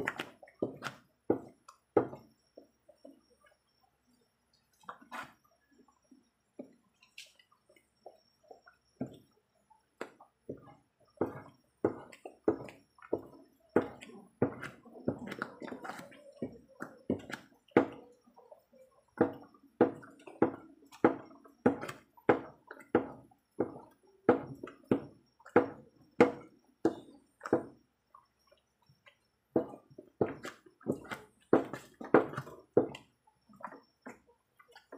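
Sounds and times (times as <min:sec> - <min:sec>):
thick jam plopping in a pan: 0:00.0 - 0:03.2, 0:10.0 - 0:34.9.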